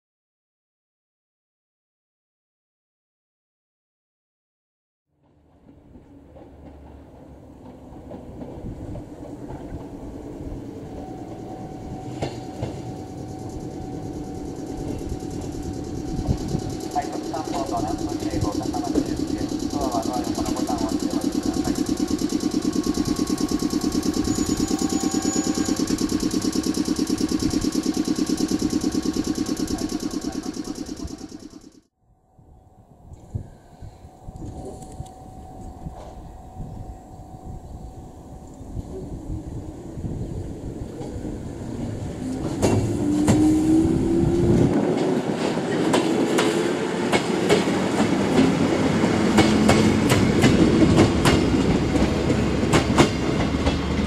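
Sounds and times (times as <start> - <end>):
train wheels rumbling on rails: 5.2 - 31.8, 33.4 - 54.0.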